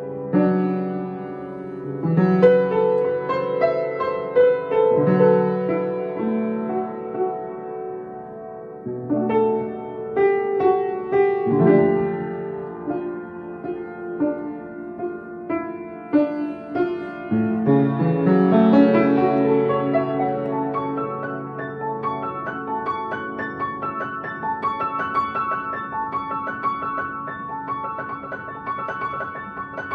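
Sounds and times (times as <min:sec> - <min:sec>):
slow melodic piano piece: 0:00.0 - 0:29.9.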